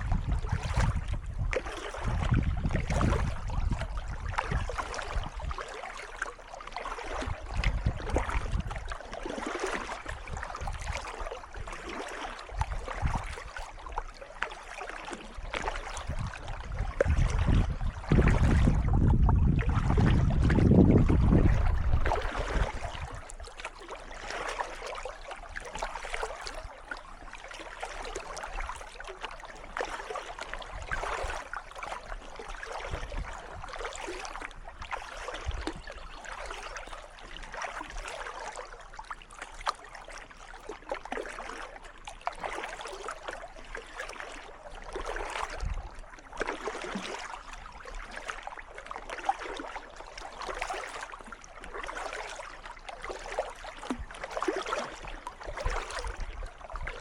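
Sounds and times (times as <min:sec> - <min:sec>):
paddle splashing in water: 0:00.0 - 0:57.0
water trickling off paddle: 0:00.0 - 0:57.0.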